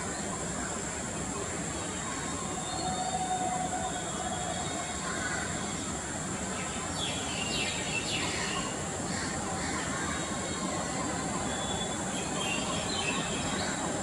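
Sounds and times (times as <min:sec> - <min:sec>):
constant high hiss: 0:00.0 - 0:14.0.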